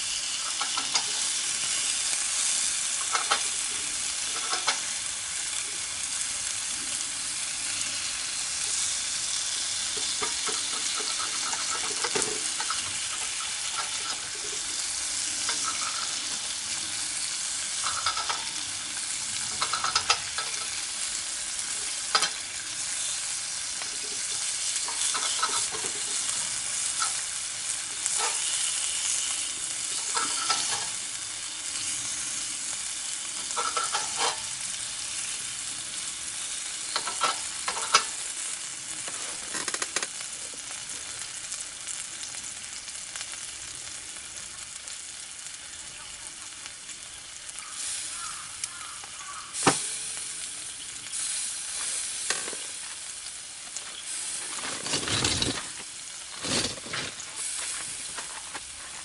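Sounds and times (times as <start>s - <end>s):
food sizzling: 0.0s - 59.0s.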